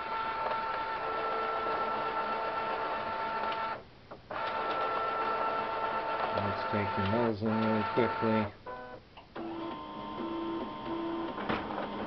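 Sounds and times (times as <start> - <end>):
document feeder motor whine: 0.0 - 12.0.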